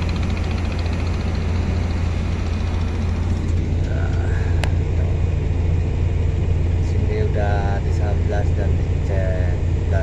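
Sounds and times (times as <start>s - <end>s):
heavy machinery engine rumbling: 0.0s - 10.0s.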